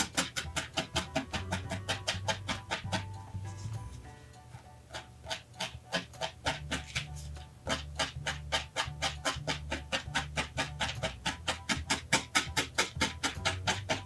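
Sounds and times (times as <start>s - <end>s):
felting needle pricking wool: 0.0s - 14.0s
quiet background music: 0.0s - 14.0s.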